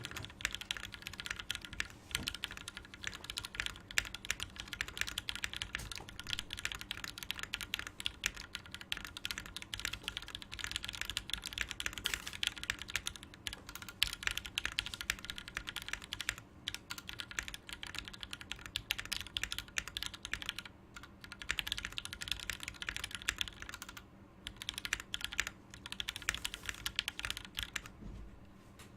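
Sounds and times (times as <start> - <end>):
mechanical keyboard typing: 0.0 - 28.0.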